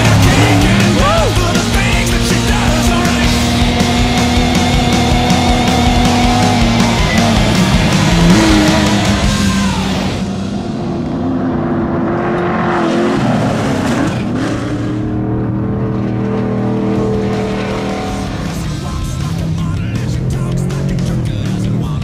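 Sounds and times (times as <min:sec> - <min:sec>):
race vehicle engine revving: 0:00.0 - 0:22.0
rock music: 0:00.0 - 0:22.0.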